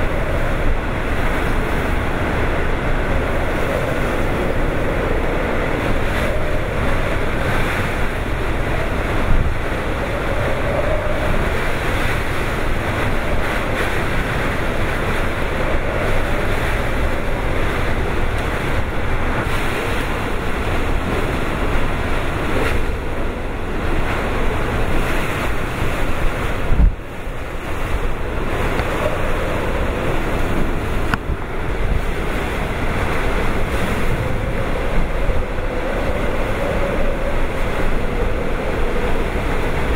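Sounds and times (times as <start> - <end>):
heavy rain: 0.0 - 39.9
strong wind: 0.0 - 39.9
wind buffeting microphone: 0.0 - 39.9.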